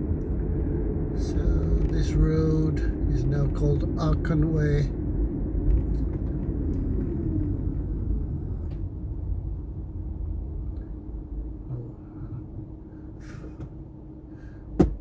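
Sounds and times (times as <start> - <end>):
car driving rumble from inside: 0.0 - 15.0
faint steady hum: 0.0 - 15.0.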